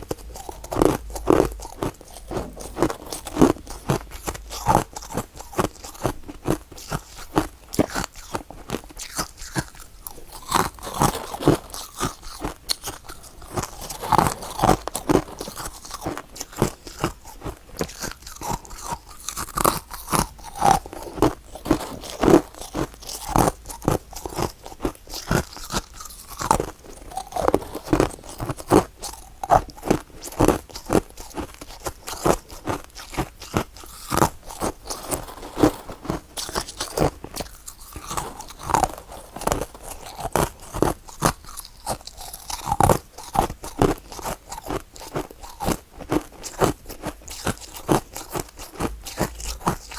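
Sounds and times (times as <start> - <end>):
chewing crunchy ice: 0.0 - 49.9.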